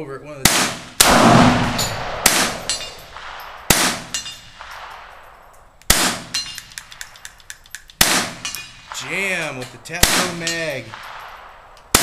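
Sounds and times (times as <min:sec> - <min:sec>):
rifle shots echoing: 0:00.4 - 0:12.0.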